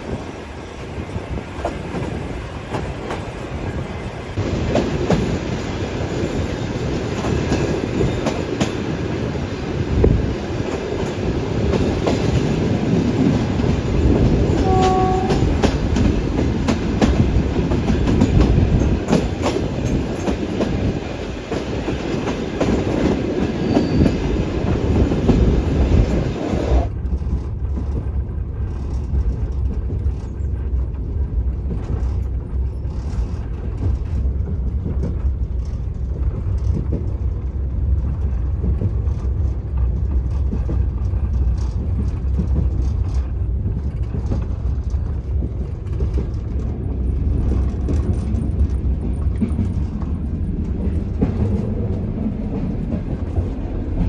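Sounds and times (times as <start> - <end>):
train rumbling on rails: 0.0 - 54.0
train wheels clicking: 0.0 - 54.0.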